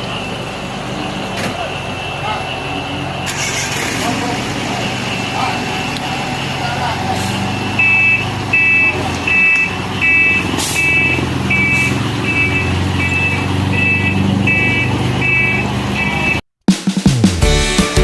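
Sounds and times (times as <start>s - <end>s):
truck engine running: 0.0s - 16.3s, 17.1s - 18.0s
truck reversing alarm beeping: 0.0s - 16.4s.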